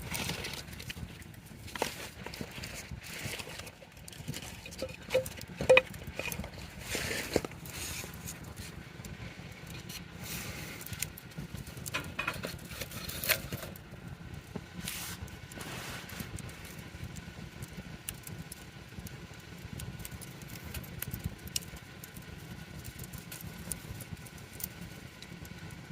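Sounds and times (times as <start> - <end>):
burning wood popping: 0.0 - 25.9
campfire crackling: 0.0 - 25.9.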